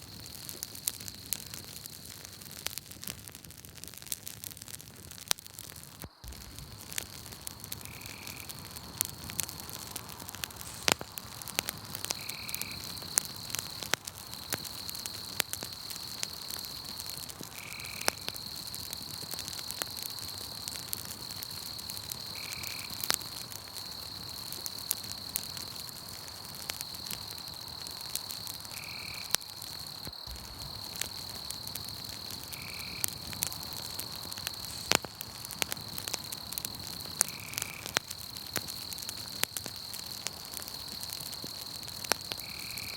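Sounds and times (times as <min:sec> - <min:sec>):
campfire crackling and popping: 0:00.0 - 0:42.9
crickets trilling: 0:05.5 - 0:42.9.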